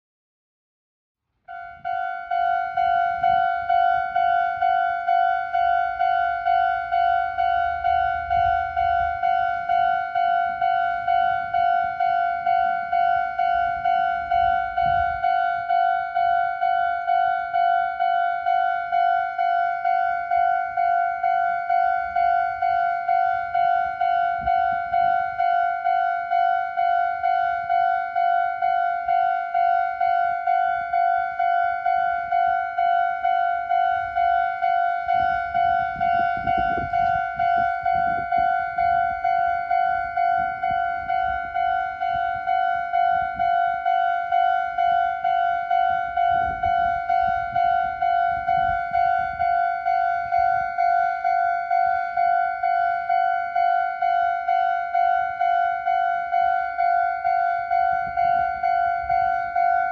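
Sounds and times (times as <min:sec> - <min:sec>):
level crossing alarm bell: 0:01.4 - 0:59.9.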